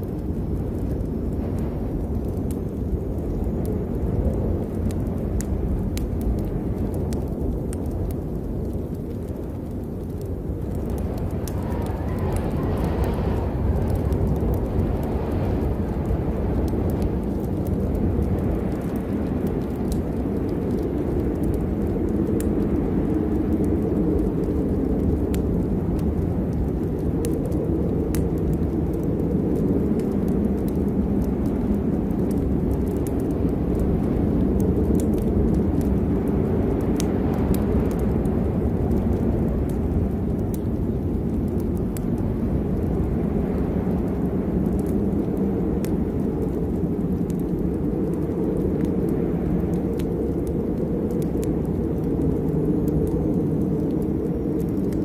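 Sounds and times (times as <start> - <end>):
low rumble: 0.0 - 55.0
rain drops ticking: 0.0 - 55.0
steady rain: 0.0 - 55.0.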